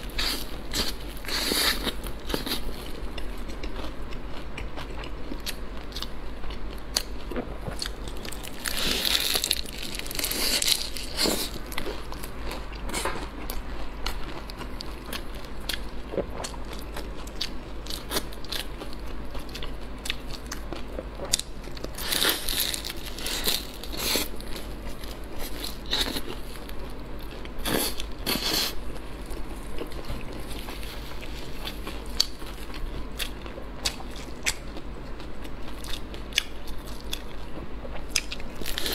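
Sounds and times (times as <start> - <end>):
crunching and chewing fried bread: 0.0 - 38.9.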